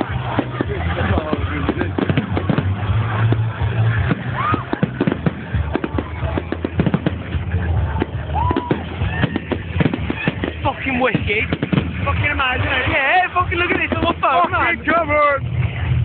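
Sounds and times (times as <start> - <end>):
fireworks bangs and crackling pops: 0.0 - 15.0.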